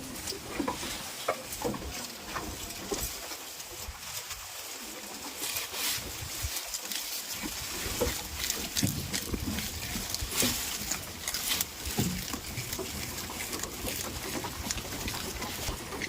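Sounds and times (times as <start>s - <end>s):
goats grunting and snuffling: 0.0s - 16.0s
small clicks and rustles: 0.2s - 16.0s.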